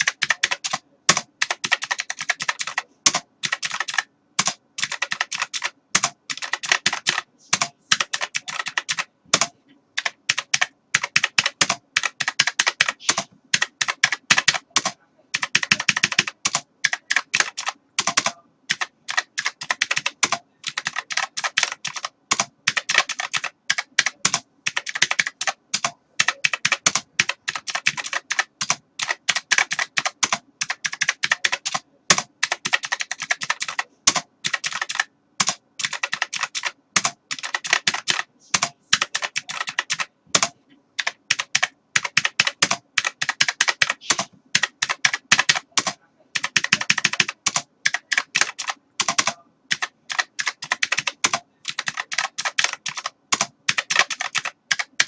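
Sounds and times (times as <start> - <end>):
typing on keyboard: 0.0 - 55.0.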